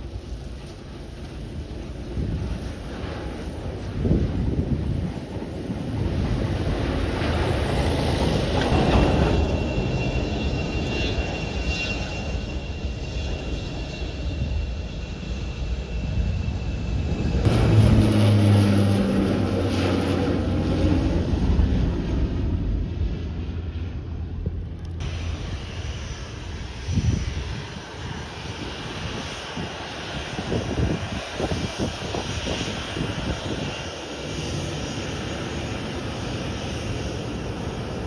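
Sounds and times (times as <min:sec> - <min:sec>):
jet engine high whine: 0:00.0 - 0:38.0
propeller aircraft droning overhead: 0:00.0 - 0:38.0
wind rumbling on microphone: 0:00.0 - 0:38.0.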